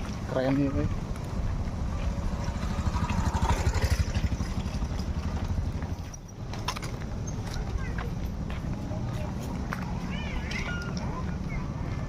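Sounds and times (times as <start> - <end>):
passing traffic engine rumble: 0.0 - 12.0.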